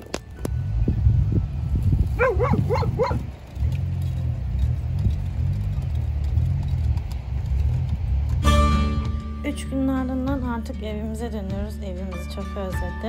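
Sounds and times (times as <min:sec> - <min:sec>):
low steady rumble: 0:00.1 - 0:13.0.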